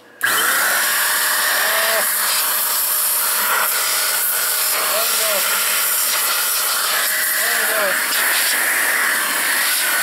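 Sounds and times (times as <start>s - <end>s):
electric air blower running: 0.2s - 10.0s.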